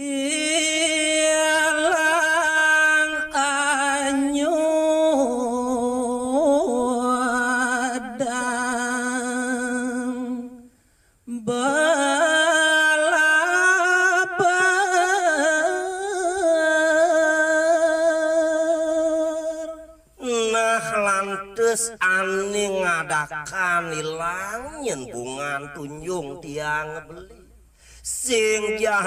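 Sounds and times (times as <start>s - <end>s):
man singing unaccompanied: 0.0s - 10.7s, 11.3s - 29.0s.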